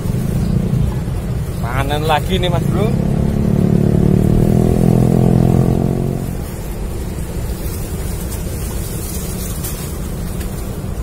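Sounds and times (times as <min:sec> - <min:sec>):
motor engine running: 0:00.0 - 0:10.8
low rumbling noise: 0:00.0 - 0:11.0.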